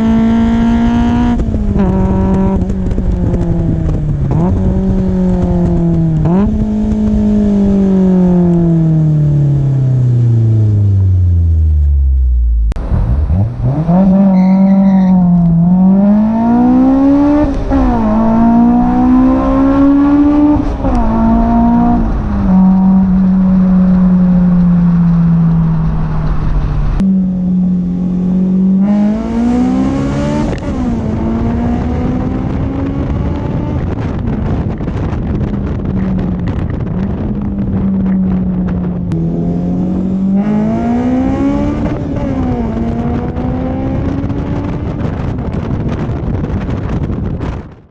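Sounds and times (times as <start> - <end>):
sports car engine passing and revving: 0.0 - 46.0.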